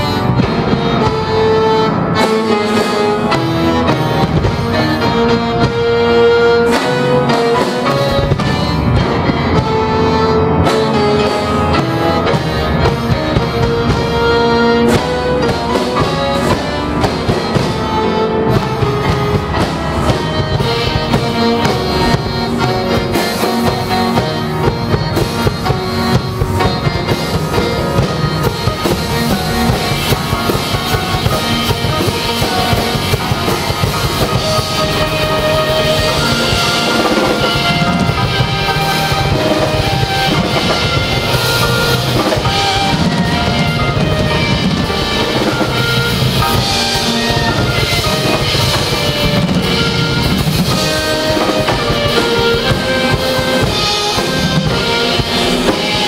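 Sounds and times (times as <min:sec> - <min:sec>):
accordion: 0:00.0 - 0:56.0
drum kit: 0:00.0 - 0:56.0
piano: 0:00.0 - 0:56.0
saxophone: 0:00.0 - 0:56.0.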